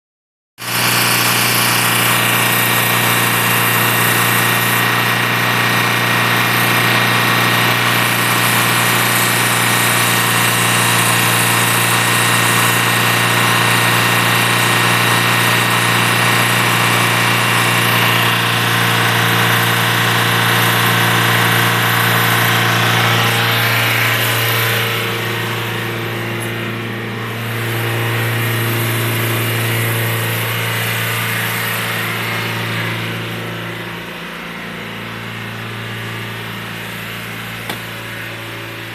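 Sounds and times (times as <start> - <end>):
engine idling: 0.6 - 38.9.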